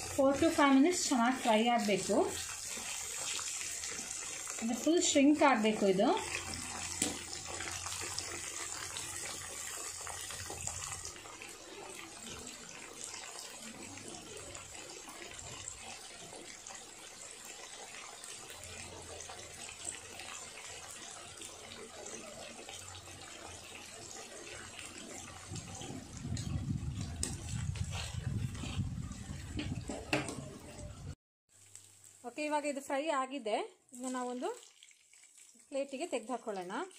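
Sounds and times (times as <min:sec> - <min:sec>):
deep-frying oil sizzling: 0:00.0 - 0:36.9.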